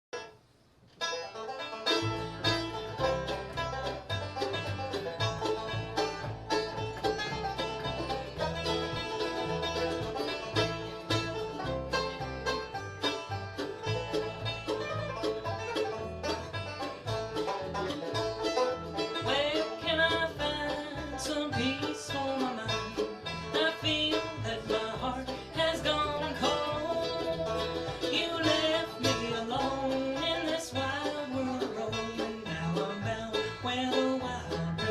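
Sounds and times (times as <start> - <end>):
banjo rolls: 0.1 - 34.9
bluegrass band playing: 0.2 - 34.9
upright bass line: 1.4 - 34.9.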